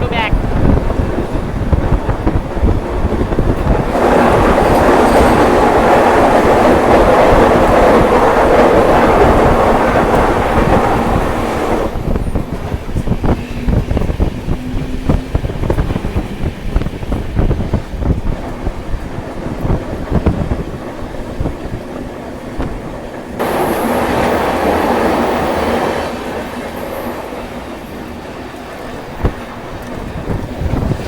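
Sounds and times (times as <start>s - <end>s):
quiet train rumble: 0.0s - 31.0s
train rushing roar: 0.0s - 31.0s.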